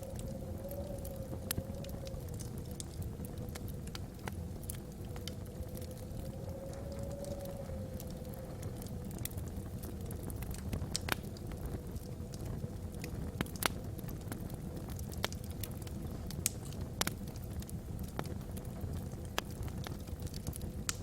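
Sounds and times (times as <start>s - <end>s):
logs crackling and popping in fire: 0.0s - 21.0s
wind howling across chimney: 0.0s - 21.0s.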